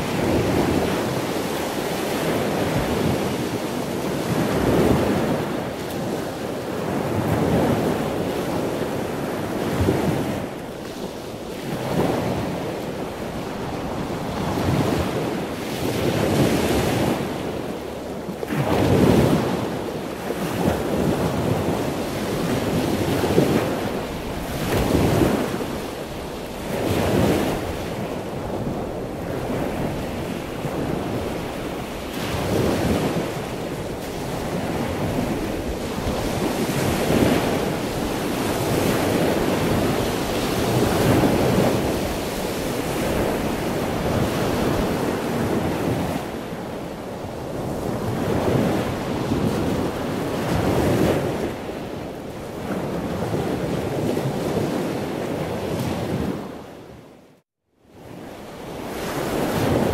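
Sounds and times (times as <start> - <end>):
waves breaking: 0.0 - 56.7, 58.4 - 59.9.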